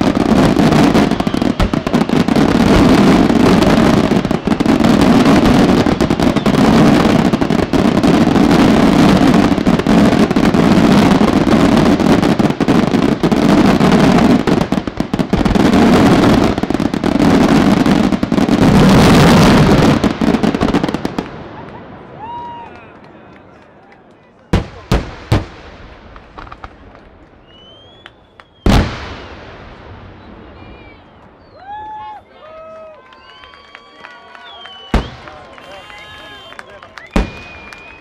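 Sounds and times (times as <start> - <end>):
fireworks bursting and crackling: 0.0 - 23.7, 24.4 - 38.0.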